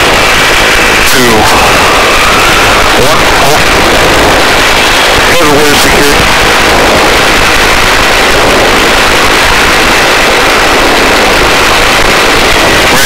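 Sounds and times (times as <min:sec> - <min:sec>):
faint high whine: 0:00.0 - 0:13.0
helicopter rotor and engine din: 0:00.0 - 0:13.0
rushing wind: 0:00.0 - 0:13.0.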